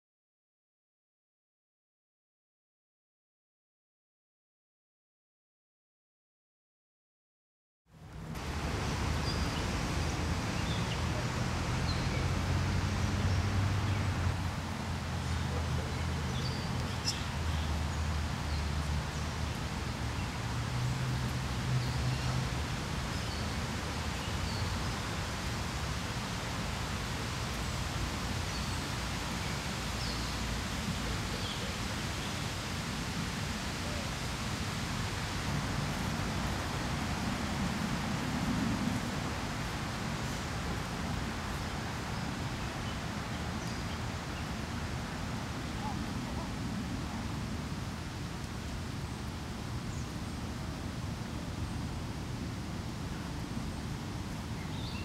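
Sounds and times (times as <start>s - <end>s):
outdoor background hiss: 7.9s - 55.0s
steady rush of noise: 8.0s - 55.0s.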